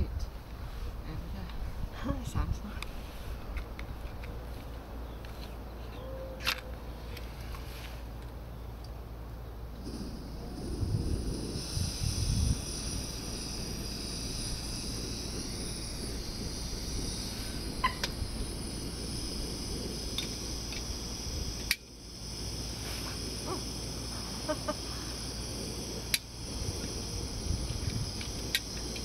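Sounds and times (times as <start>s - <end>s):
camping stove hissing: 0.0s - 8.4s, 9.5s - 29.0s.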